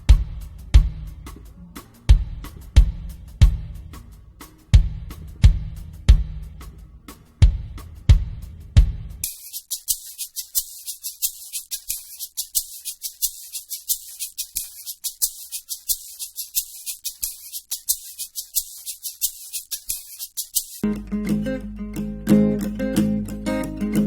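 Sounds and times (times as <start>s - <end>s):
shaker rhythmic pattern: 0.0s - 24.0s.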